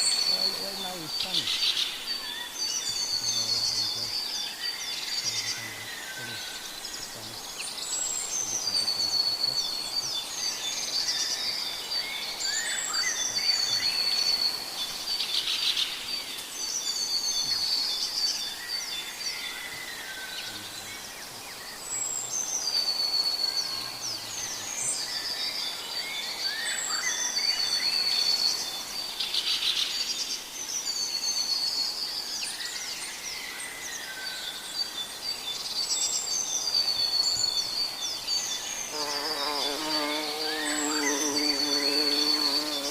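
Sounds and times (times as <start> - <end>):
birds singing: 0.0 - 42.9.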